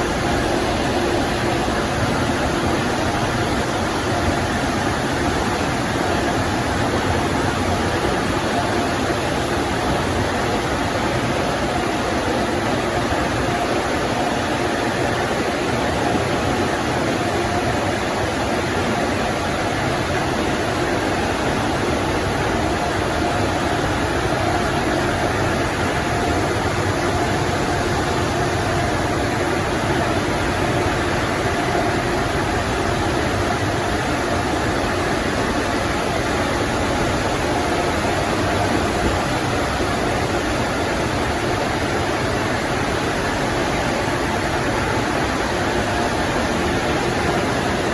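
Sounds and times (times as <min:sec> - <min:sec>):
car wash spraying water: 0:00.0 - 0:47.9
faint machine hum: 0:00.0 - 0:47.9.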